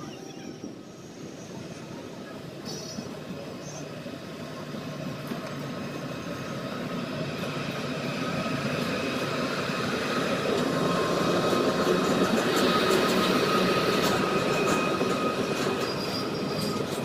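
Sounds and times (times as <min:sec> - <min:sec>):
locomotive whine: 0:00.0 - 0:17.0
train wheels rumbling on rails: 0:00.0 - 0:17.0.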